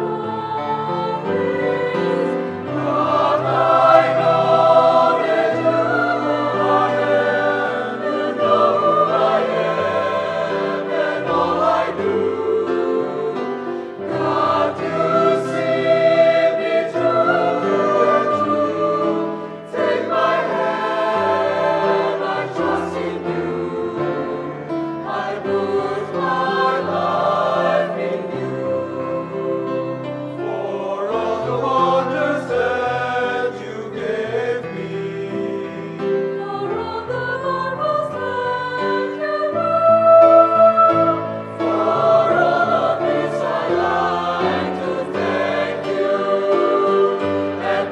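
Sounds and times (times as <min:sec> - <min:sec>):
church choir singing: 0:00.0 - 0:47.9.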